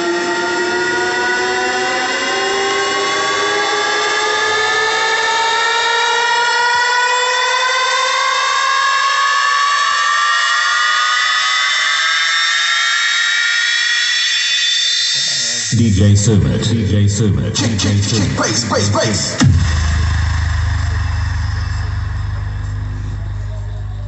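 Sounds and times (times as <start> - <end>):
buzzy synth tone rising in pitch: 0.0 - 16.8, 17.8 - 24.0.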